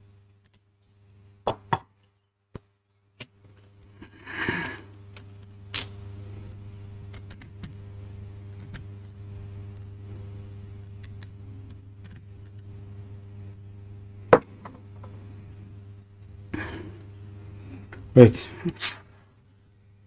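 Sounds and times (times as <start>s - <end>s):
low hum: 3.6s - 20.0s.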